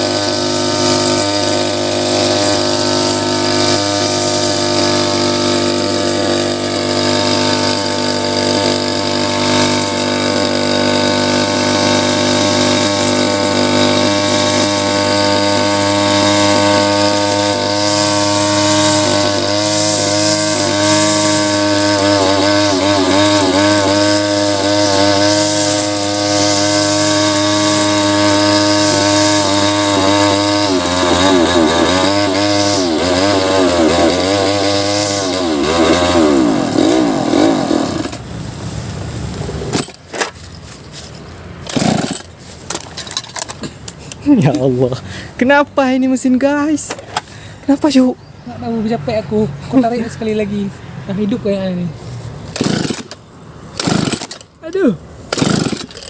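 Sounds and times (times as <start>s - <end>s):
grass cutter engine running: 0.0s - 45.5s, 52.0s - 56.0s.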